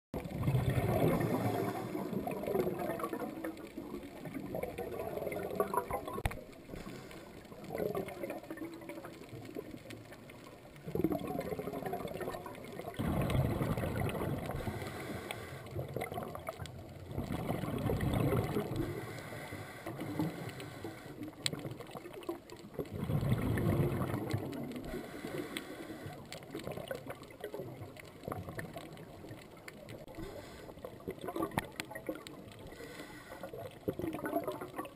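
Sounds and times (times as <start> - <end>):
underwater exhaust bubbles gurgling: 0.2 - 34.9.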